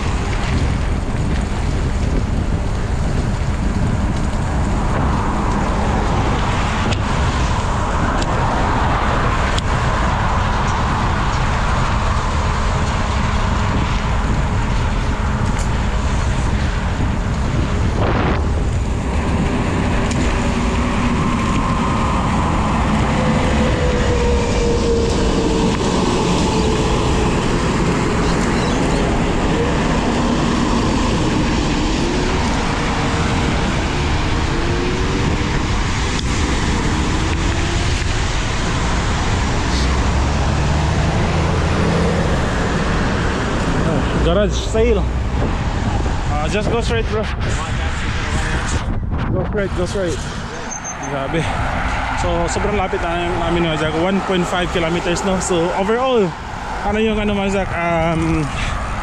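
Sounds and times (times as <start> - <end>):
road traffic: 0.0 - 59.0
wind buffeting microphone: 0.0 - 59.0.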